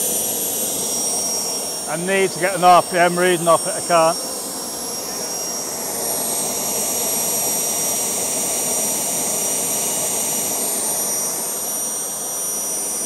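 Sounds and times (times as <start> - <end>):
gas turbine running: 0.0 - 13.0
high-pitched turbine whine: 0.0 - 13.0.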